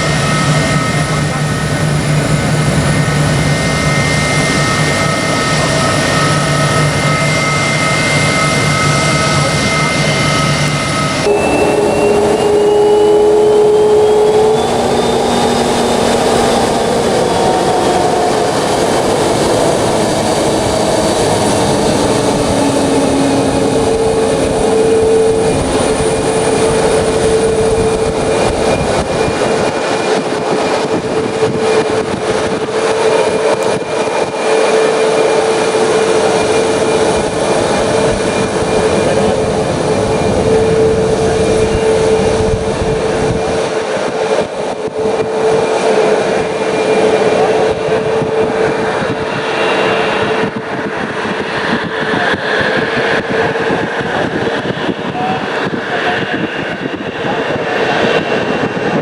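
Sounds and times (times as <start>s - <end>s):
jet engines whining and rumbling: 0.0s - 59.0s
jet whine rising in pitch: 0.0s - 59.0s.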